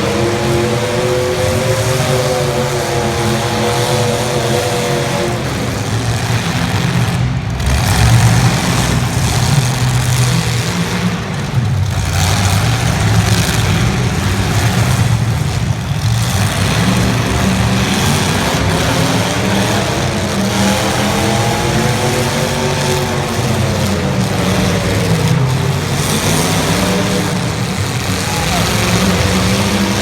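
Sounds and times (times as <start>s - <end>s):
car engines revving loudly: 0.0s - 30.0s.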